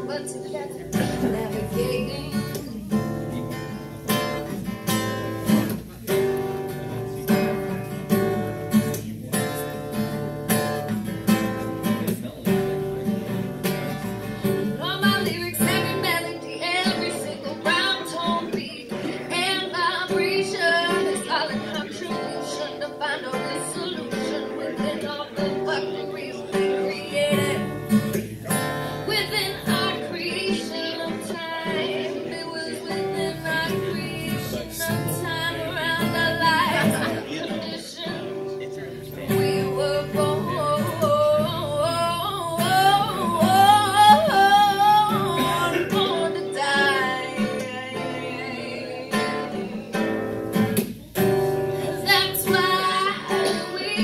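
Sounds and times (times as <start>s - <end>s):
woman singing: 0.0s - 5.8s, 13.7s - 38.4s, 39.3s - 54.0s
strummed acoustic guitar: 0.0s - 54.0s.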